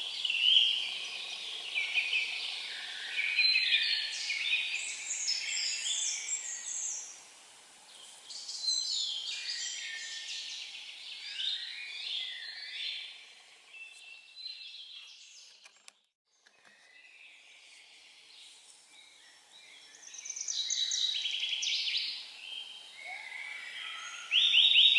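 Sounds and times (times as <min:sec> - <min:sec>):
faint hiss of forest air: 0:00.0 - 0:15.4, 0:16.8 - 0:24.9
songbirds singing: 0:00.0 - 0:24.9.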